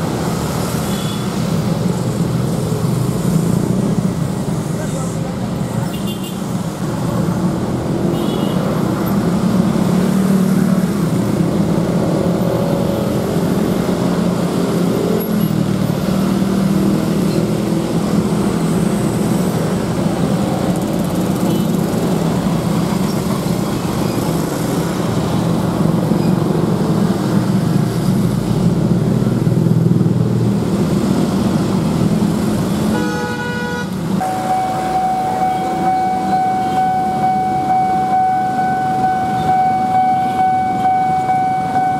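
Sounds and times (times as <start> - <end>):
traffic engines running: 0.0 - 41.9.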